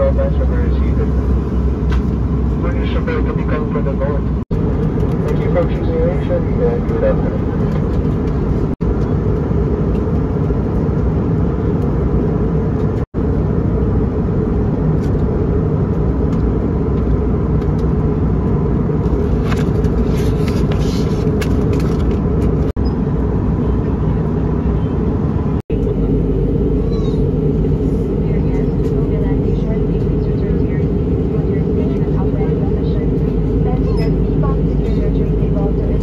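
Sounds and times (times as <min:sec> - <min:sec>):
airplane cabin noise: 0:00.0 - 0:36.0.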